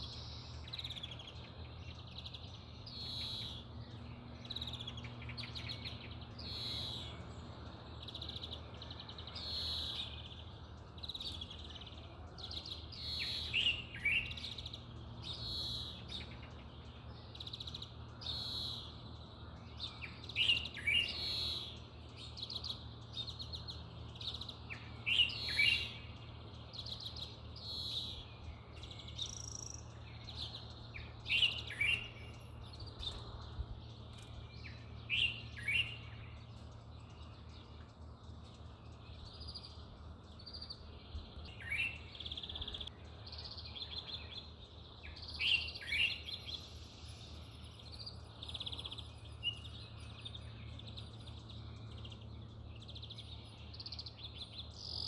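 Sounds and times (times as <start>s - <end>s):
birds chirping and trilling: 0.0s - 55.0s
low background hum: 0.0s - 55.0s.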